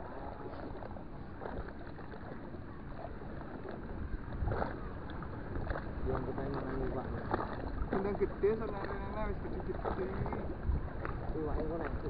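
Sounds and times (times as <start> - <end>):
water at a seawall: 0.0 - 12.0
wind: 0.0 - 12.0.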